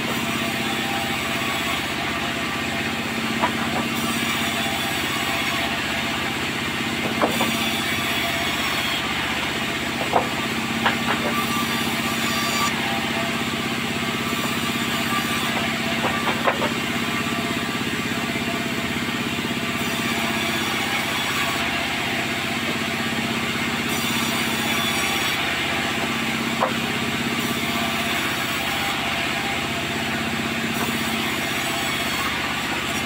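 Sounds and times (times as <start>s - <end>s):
sawmill machinery humming: 0.0s - 33.0s.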